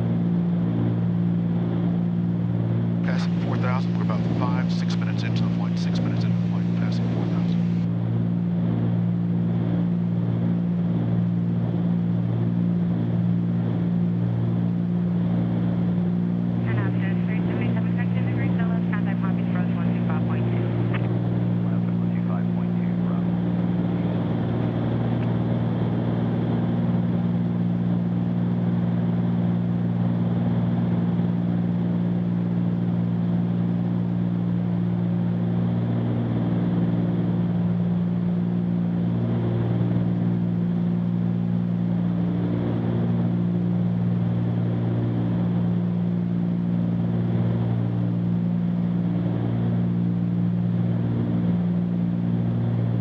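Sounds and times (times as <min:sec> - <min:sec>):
aircraft propeller engines droning: 0:00.0 - 0:53.0.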